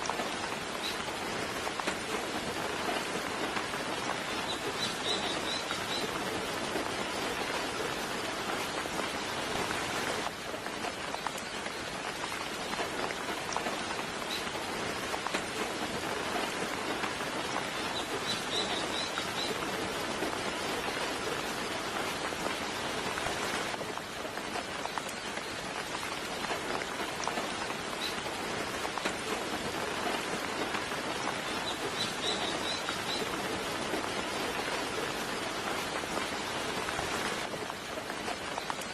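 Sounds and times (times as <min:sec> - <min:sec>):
gentle rain patter: 0:00.0 - 0:38.9.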